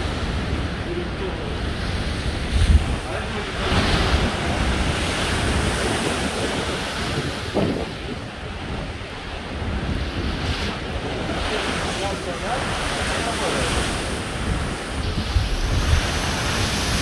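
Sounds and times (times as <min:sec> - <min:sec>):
storm waves crashing: 0:00.0 - 0:17.0
wind buffeting microphone: 0:00.0 - 0:17.0.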